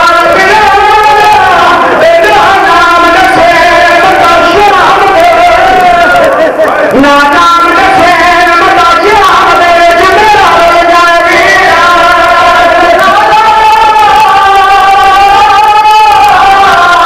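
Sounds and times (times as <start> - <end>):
man chanting a lament: 0.0 - 17.0.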